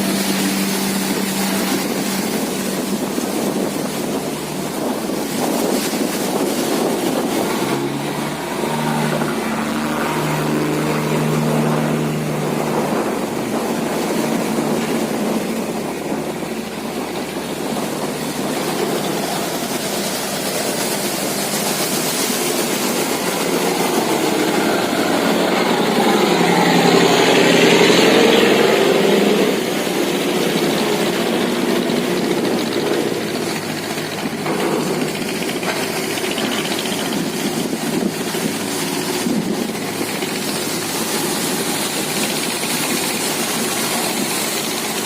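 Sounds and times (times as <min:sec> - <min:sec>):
boat engine humming: 0:00.0 - 0:45.0
steady rush of noise: 0:00.0 - 0:45.0.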